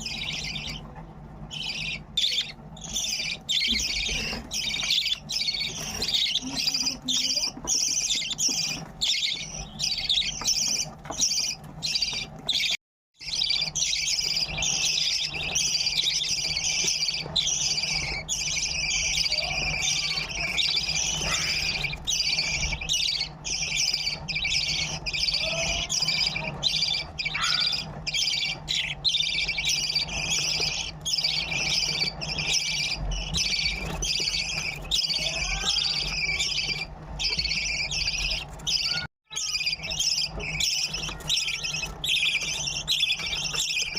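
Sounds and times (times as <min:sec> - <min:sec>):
budgerigar chicks begging calls: 0:00.0 - 0:43.9.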